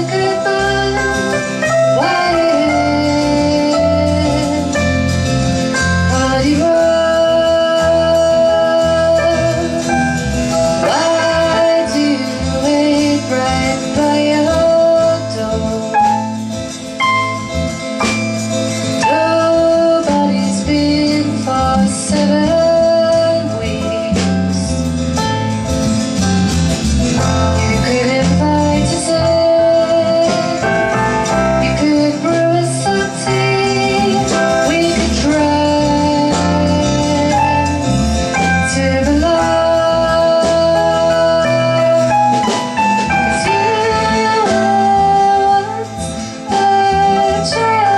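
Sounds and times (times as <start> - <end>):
woman singing into a microphone: 0.0 - 16.6, 18.9 - 25.1, 27.5 - 47.9.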